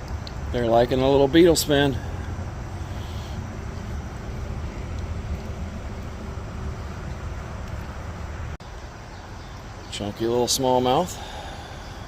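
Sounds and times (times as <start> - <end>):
creek rushing: 0.0 - 12.0.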